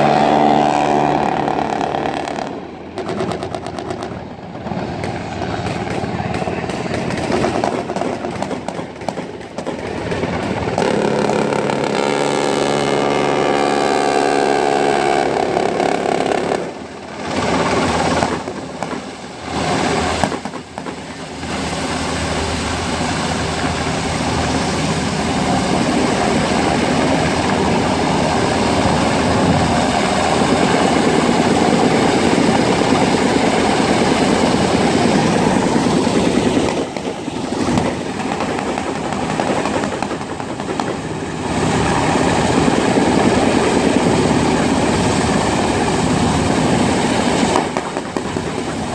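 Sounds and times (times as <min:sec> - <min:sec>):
helicopter hovering: 0:00.0 - 0:48.9.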